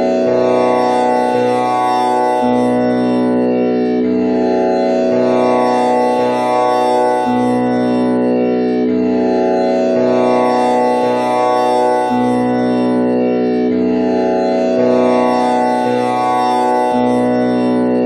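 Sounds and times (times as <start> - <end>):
tanpura drone plucked strings: 0.0 - 18.0.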